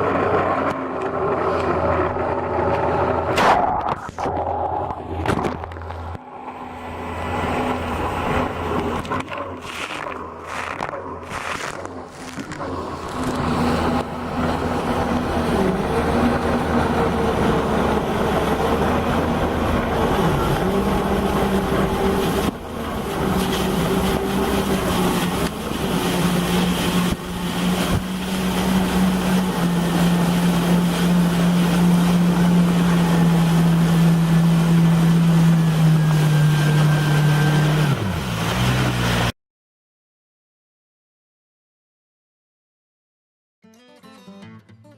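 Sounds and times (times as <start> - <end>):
jet ski engine running: 0.0 - 39.3
rushing water: 0.0 - 39.3
wind: 0.0 - 39.3.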